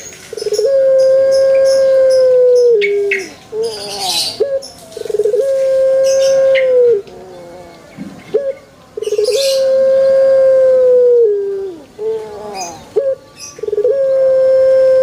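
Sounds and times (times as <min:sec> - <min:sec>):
dove cooing: 0:00.3 - 0:15.0.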